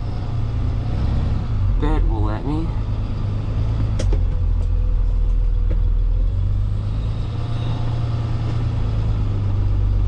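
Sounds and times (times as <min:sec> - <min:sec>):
heavy truck engine running: 0:00.0 - 0:10.0.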